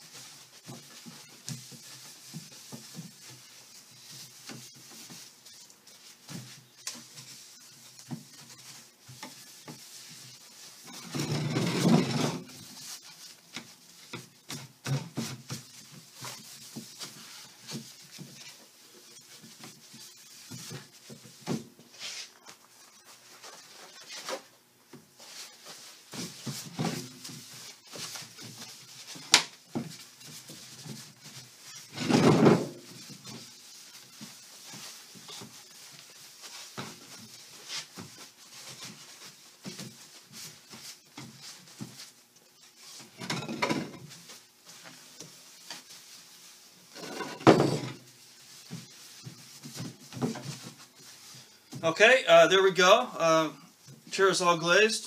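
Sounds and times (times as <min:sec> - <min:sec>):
cloth rubbing on wood: 0:00.0 - 0:52.1.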